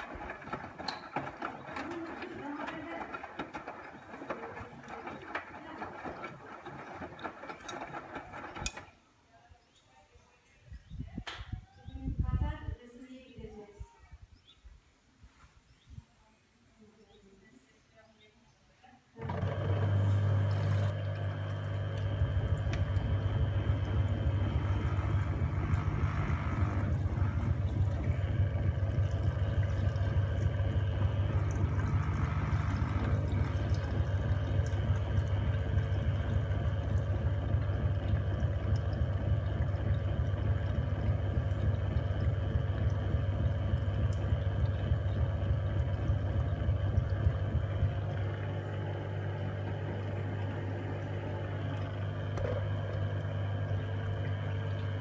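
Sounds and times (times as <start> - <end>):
washing machine low hum: 0.0 - 8.9, 19.2 - 55.0
water rushing through washing machine: 0.0 - 8.9, 19.2 - 55.0.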